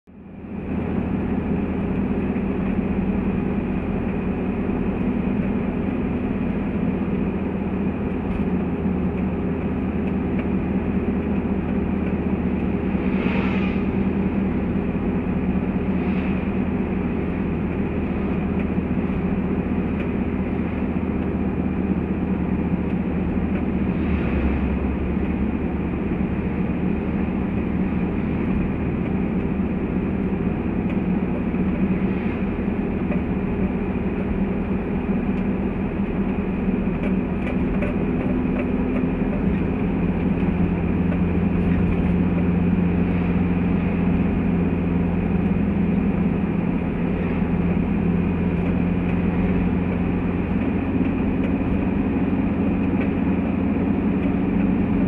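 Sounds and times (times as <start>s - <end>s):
car engine drone: 0.0s - 55.0s
passing traffic: 0.0s - 55.0s
road and tyre noise: 0.0s - 55.0s.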